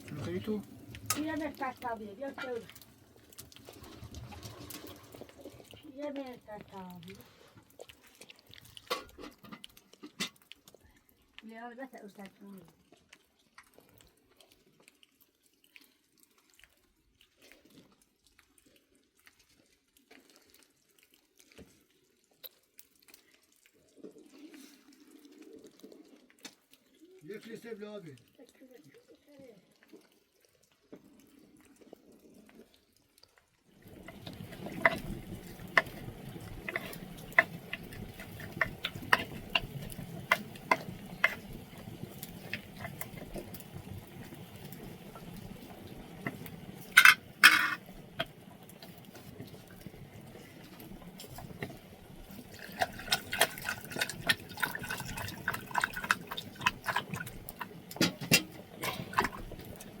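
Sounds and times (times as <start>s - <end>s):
water sounds: 0.0s - 60.0s.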